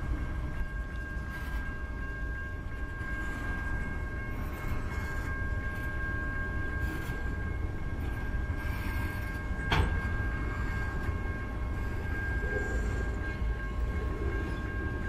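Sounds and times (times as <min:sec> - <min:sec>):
faint high whine: 0:00.0 - 0:15.0
steel wheels rumbling on rail: 0:00.0 - 0:15.0.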